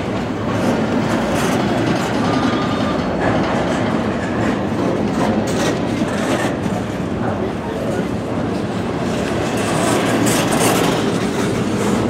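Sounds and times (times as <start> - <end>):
steel wheels rumbling on rail: 0.0 - 12.0.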